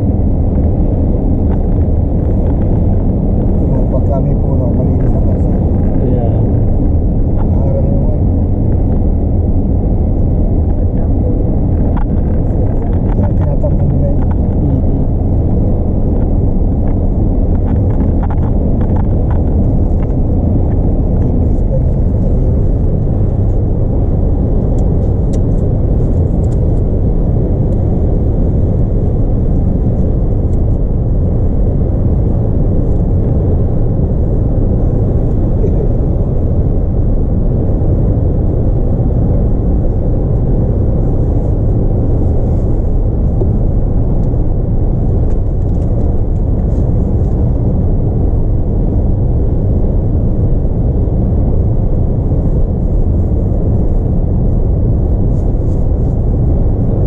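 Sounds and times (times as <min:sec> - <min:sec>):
car cabin road noise: 0:00.0 - 0:57.0.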